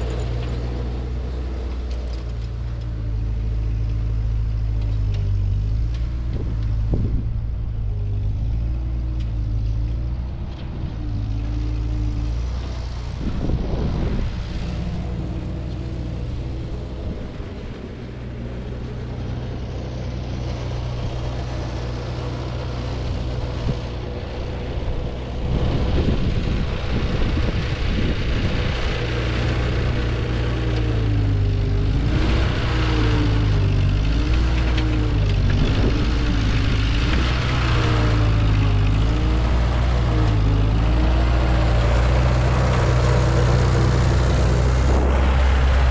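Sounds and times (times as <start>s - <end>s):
tractor engine under load: 0.0s - 45.9s.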